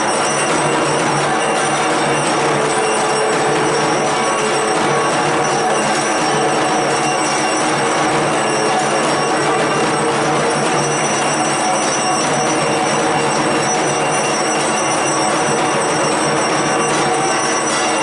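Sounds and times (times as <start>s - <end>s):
bells ringing: 0.0s - 18.0s
music: 0.0s - 18.0s.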